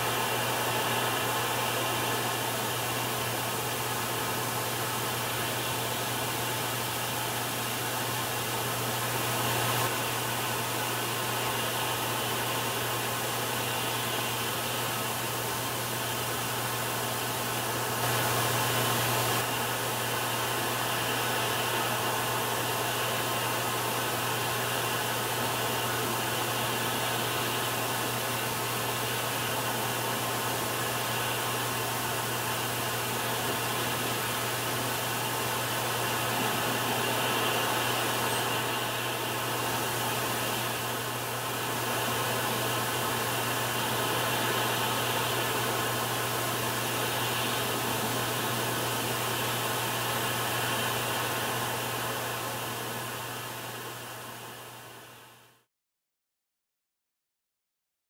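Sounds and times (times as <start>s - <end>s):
steady hiss: 0.0s - 55.5s.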